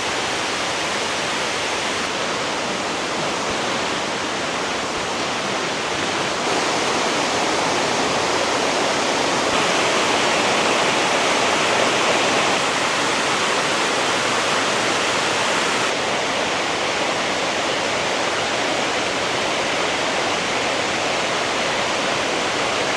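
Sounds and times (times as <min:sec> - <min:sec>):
water rushing over rocks: 0:00.0 - 0:22.9.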